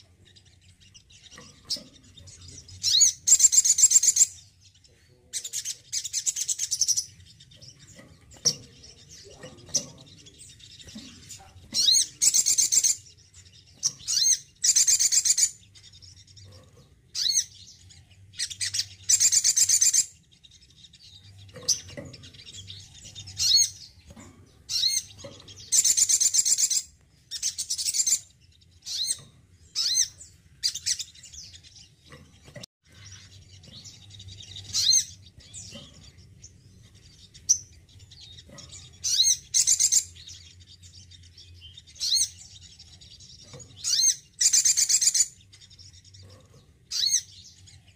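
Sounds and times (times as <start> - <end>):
bird twittering trills: 0.0 - 47.9.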